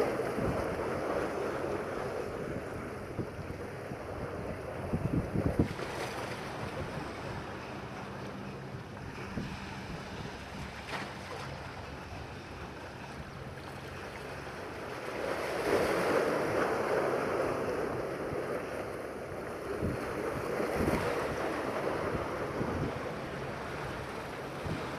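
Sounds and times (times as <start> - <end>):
waves breaking on rocky shore: 0.0 - 24.9.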